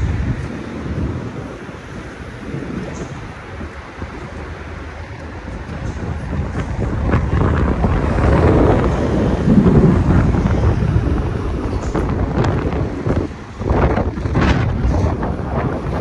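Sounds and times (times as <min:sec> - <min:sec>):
wind gusting on microphone: 0:00.0 - 0:16.0.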